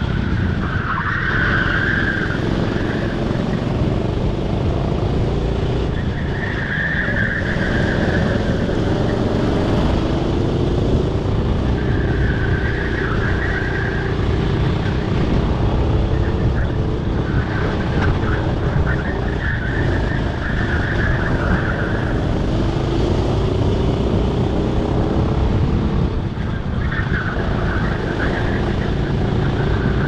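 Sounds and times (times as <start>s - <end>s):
go-kart engine revving: 0.0s - 30.0s.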